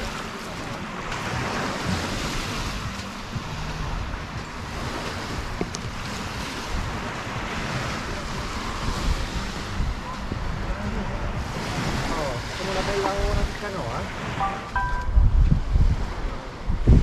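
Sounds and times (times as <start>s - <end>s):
waves breaking on a beach: 0.0s - 17.0s
wind rumbling on microphone: 0.0s - 17.0s.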